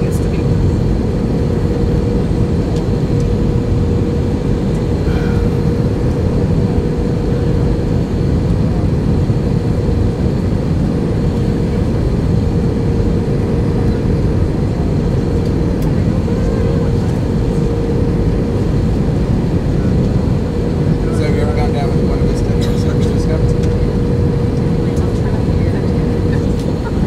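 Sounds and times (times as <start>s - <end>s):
airplane cabin rumble: 0.0s - 27.0s
mid-pitched hum: 0.0s - 27.0s.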